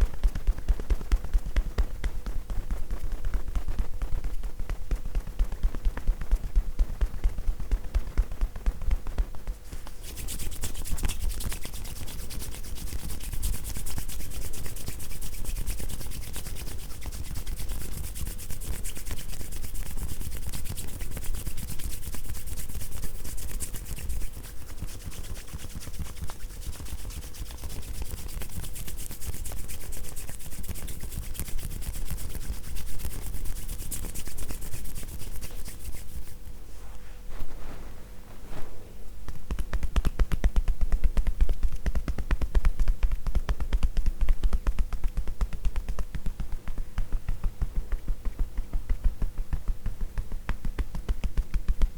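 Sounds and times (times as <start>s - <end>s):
rhythmic massage taps: 0.0s - 36.6s, 39.2s - 51.9s
hands rubbing skin: 7.2s - 51.9s.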